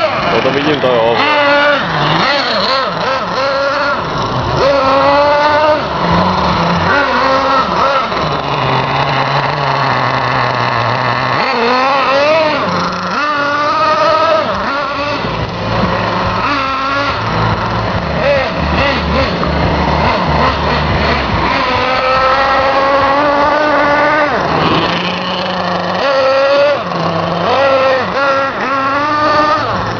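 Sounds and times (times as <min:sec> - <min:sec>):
moped engine revving: 0:00.0 - 0:29.9.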